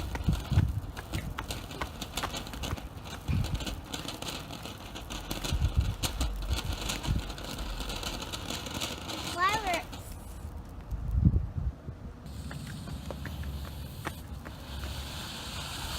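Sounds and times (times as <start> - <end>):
firework hiss: 0.0 - 10.5, 12.3 - 15.9
firework fountain crackling: 0.0 - 10.8, 12.3 - 15.9
low rumbles: 0.0 - 15.9.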